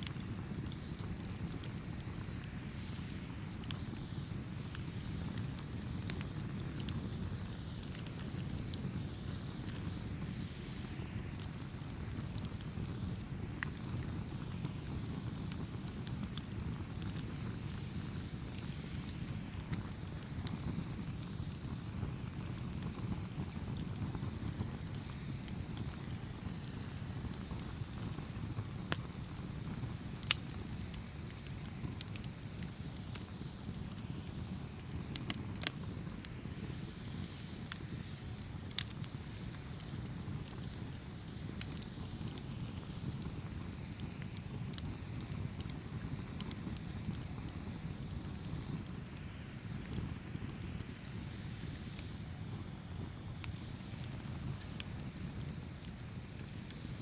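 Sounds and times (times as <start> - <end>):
fire crackling and popping: 0.0 - 57.0
flames rumbling: 0.0 - 57.0.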